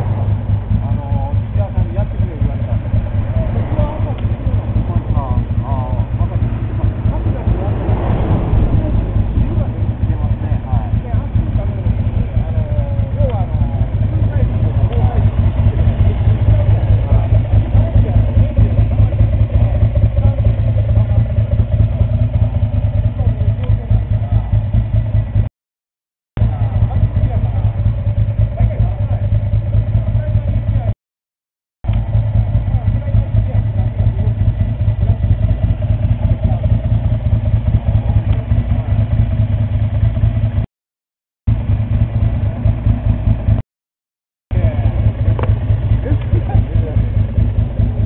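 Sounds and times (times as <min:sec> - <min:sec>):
motorcycle engine idling: 0:00.0 - 0:07.8, 0:09.5 - 0:25.4, 0:26.4 - 0:30.9, 0:31.9 - 0:40.6, 0:41.5 - 0:43.6, 0:44.5 - 0:48.0.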